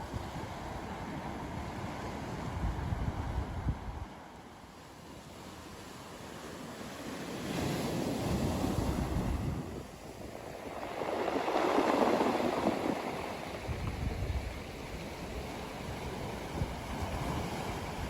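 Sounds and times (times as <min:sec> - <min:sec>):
ocean waves washing onto beach: 0:00.0 - 0:18.0.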